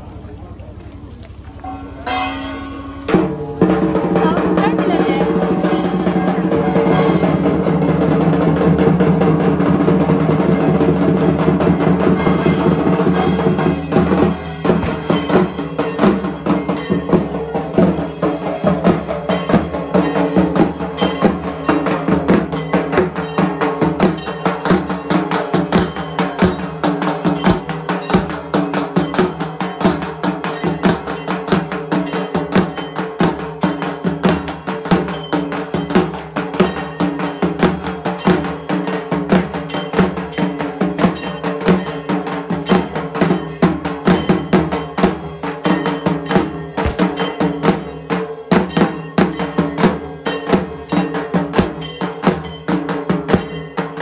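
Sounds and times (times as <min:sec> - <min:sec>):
metal gong clanging: 0:01.6 - 0:54.0
drums beaten in fast rhythm: 0:01.8 - 0:54.0.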